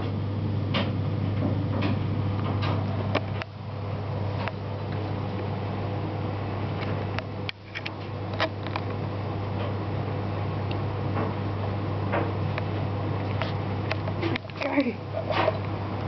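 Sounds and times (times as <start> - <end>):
low hum and rushing noise: 0.0 - 16.0.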